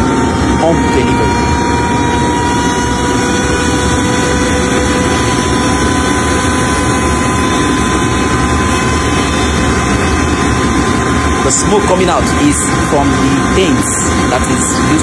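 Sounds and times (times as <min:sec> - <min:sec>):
jet engine rushing and whining: 0:00.0 - 0:15.0.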